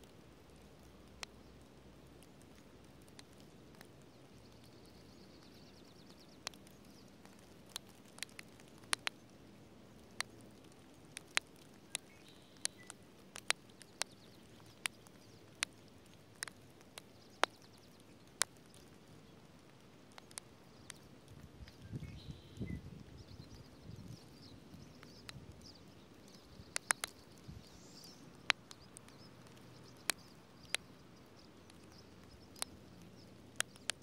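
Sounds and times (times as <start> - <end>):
faint rain hiss: 0.0 - 34.0
raindrops tapping on dry leaves: 0.0 - 34.0.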